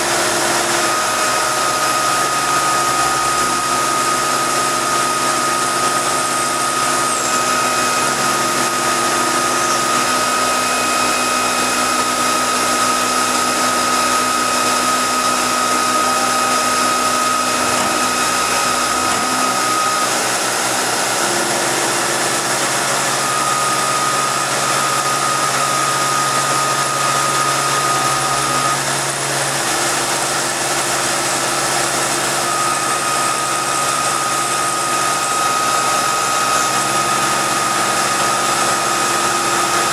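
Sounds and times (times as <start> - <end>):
high cutting whine: 0.0 - 39.9
milling machine running: 0.0 - 39.9.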